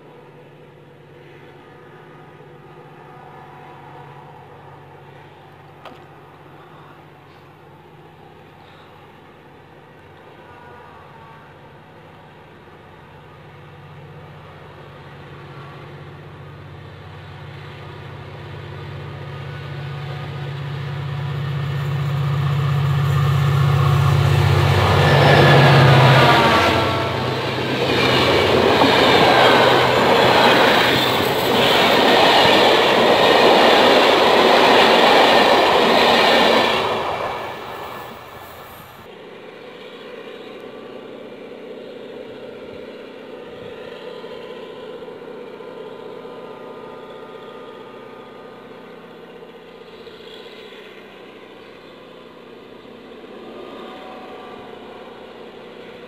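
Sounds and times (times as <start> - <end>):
locomotive engine drone: 10.2 - 56.0.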